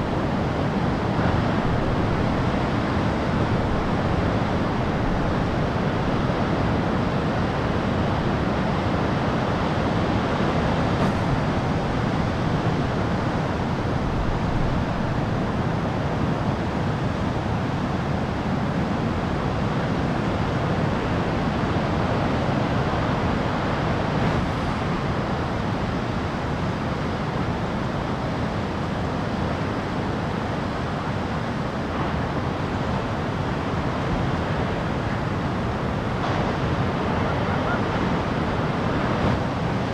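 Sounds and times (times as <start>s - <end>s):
ocean surf breaking: 0.0s - 39.9s
wind: 0.0s - 39.9s.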